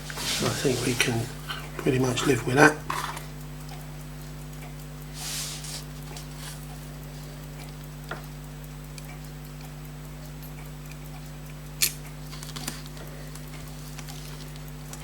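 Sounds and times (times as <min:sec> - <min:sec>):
faint regular ticking: 0:00.0 - 0:15.0
steady low hum: 0:00.0 - 0:15.0.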